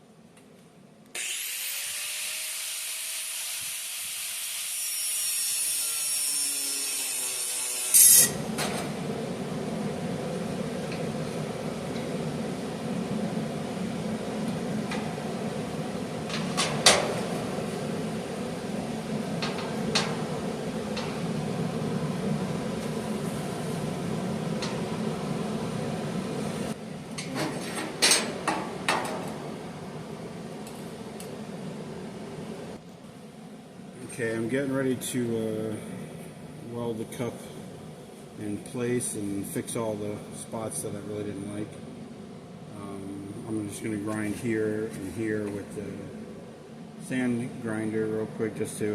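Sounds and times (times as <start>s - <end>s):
steady hum: 6.6s - 48.9s.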